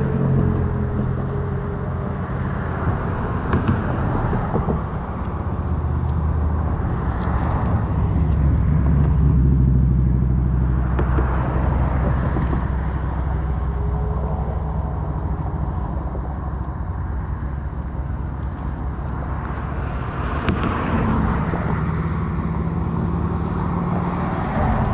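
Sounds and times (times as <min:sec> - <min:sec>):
vehicle engine humming: 0:00.0 - 0:24.9.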